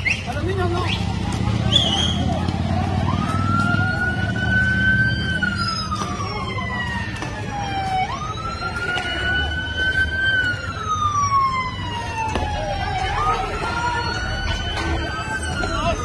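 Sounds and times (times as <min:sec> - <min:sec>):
crowd voices: 0:00.0 - 0:16.0
low street noise: 0:00.0 - 0:16.0
siren wailing: 0:01.9 - 0:16.0.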